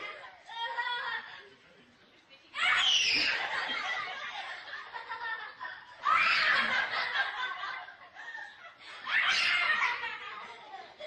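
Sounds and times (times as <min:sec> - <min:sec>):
children laughing excitedly: 0:00.0 - 0:01.4, 0:02.6 - 0:11.0.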